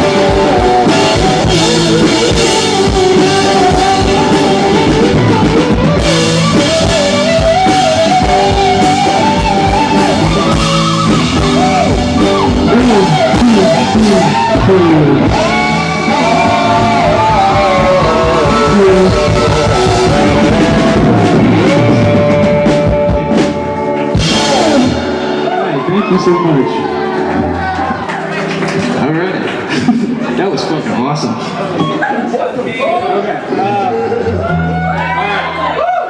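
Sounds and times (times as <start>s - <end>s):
bending lead guitar line: 0.0s - 32.0s
live rock band playing: 0.0s - 32.2s, 33.4s - 36.0s.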